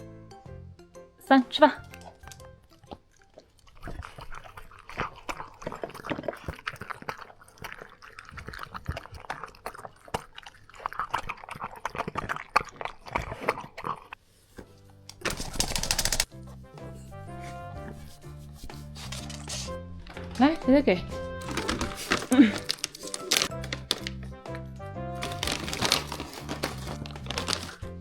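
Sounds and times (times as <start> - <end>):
dog crunching and chewing food: 1.8 - 16.6, 18.0 - 28.0.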